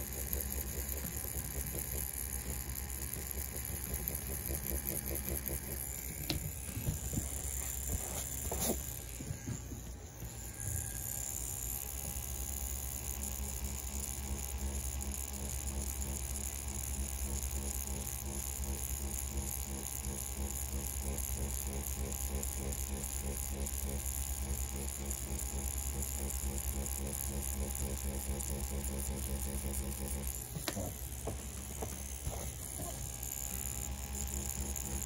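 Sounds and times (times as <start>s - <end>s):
tattoo pen buzzing: 0.0s - 35.0s.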